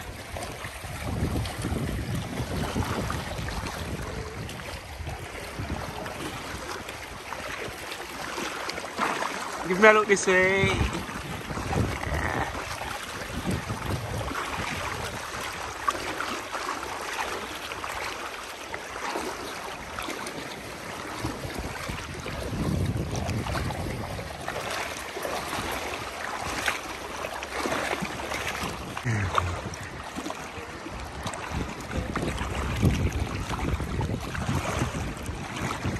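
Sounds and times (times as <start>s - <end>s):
wind buffeting microphone: 0.0s - 8.2s, 10.3s - 16.1s, 19.8s - 27.2s, 27.8s - 35.9s
sea water sloshing and splashing: 0.0s - 35.9s.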